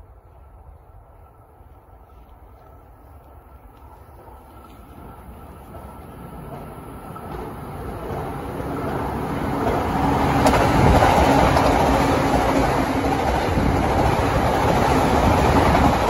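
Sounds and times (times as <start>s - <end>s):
train passing on rails: 0.0s - 16.0s.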